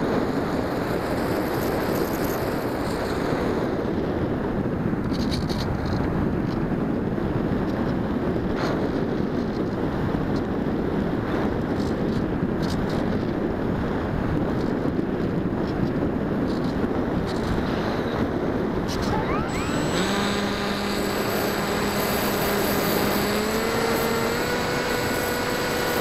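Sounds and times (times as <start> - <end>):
rushing wind noise: 0.0 - 26.0.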